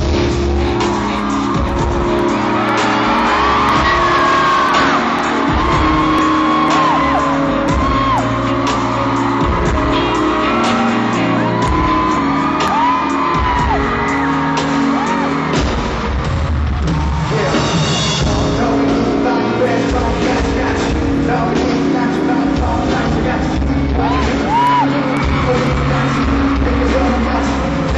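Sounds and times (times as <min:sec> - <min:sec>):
audience shrieking and whooping: 0:00.0 - 0:18.2, 0:19.5 - 0:27.9
loud live music: 0:00.0 - 0:27.9.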